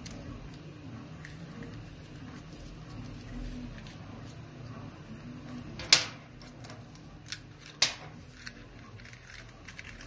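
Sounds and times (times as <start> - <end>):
printers humming: 0.0 - 10.0.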